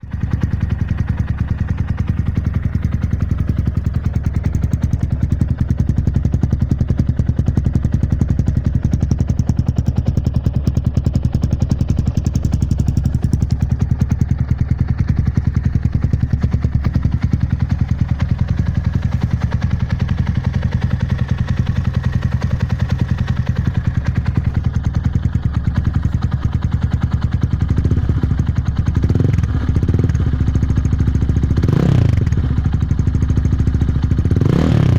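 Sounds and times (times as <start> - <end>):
engine exhaust burble idling: 0.0 - 34.9.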